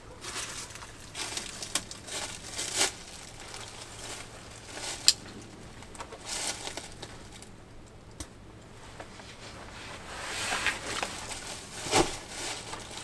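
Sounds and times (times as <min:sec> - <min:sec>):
footsteps crunching dry leaves: 0:00.1 - 0:07.4, 0:09.7 - 0:13.0.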